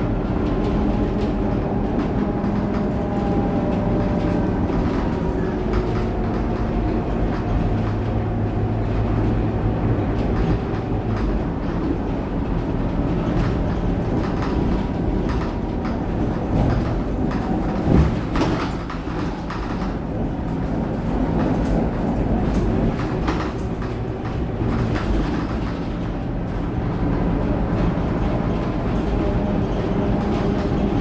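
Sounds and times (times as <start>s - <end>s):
bus diesel engine running: 0.0s - 31.0s
road and cabin rattle: 0.0s - 31.0s.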